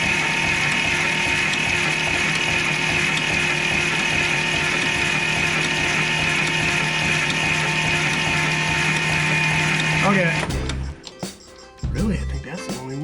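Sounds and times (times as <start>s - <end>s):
starter motor cranking engine: 0.0s - 11.2s.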